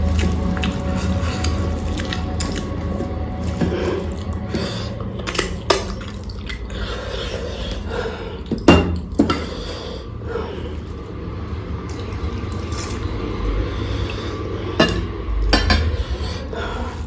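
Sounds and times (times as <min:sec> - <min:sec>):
chewing and wet mouth sounds: 0:00.0 - 0:17.0
steady low hum: 0:00.0 - 0:17.0.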